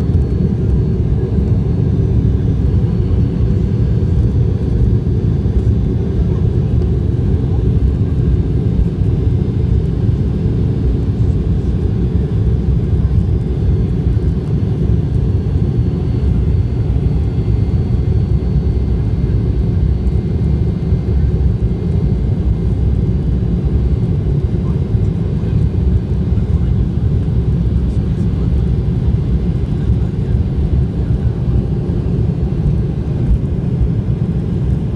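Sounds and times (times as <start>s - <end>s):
faint high engine whine: 0.0s - 34.9s
jet engine and runway rumble: 0.0s - 34.9s.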